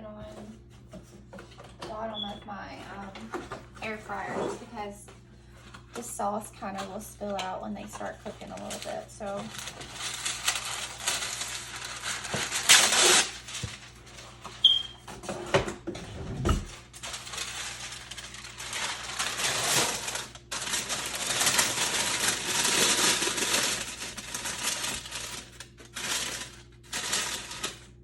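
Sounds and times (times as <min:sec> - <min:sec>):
parchment paper rustling: 0:00.2 - 0:15.4, 0:16.5 - 0:28.0.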